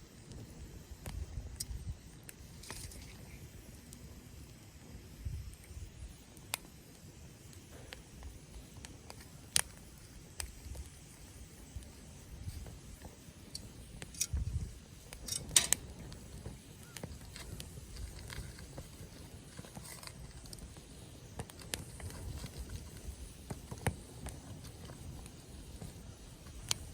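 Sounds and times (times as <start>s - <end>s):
campfire crackling and popping: 0.0s - 26.9s.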